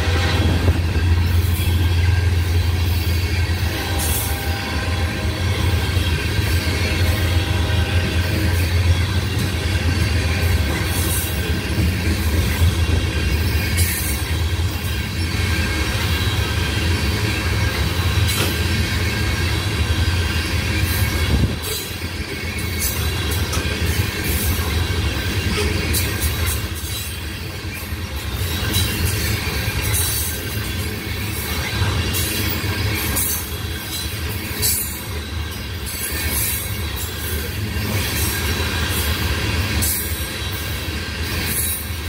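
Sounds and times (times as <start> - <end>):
freight train rolling past: 0.0 - 42.0.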